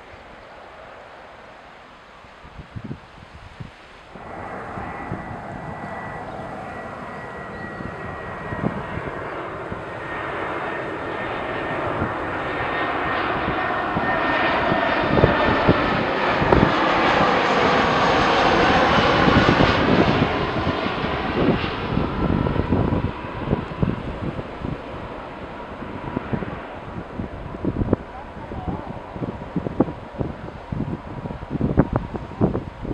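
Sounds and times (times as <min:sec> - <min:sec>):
jet engines passing: 0:00.0 - 0:32.9
wind buffeting microphone: 0:02.2 - 0:32.9.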